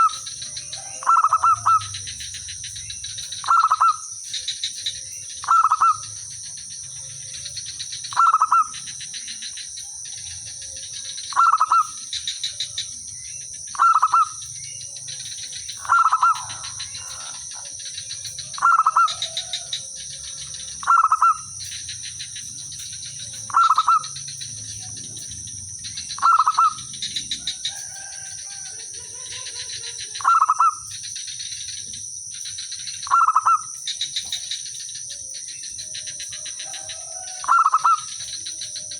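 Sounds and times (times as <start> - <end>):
dove cooing: 0.0 - 32.1, 32.8 - 38.9.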